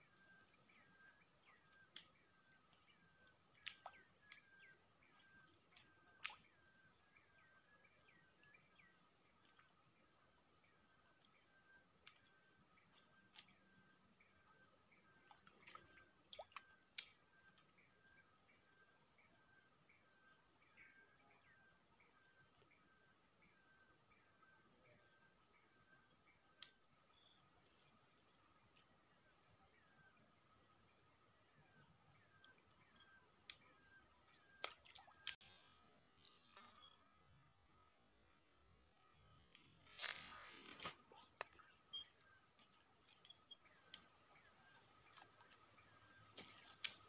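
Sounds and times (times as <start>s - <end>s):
short insect chirp: 0.0s - 47.0s.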